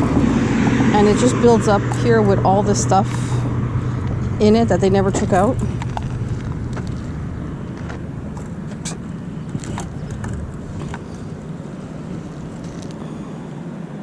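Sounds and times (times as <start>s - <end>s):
motor vehicle passing: 0.0s - 13.9s.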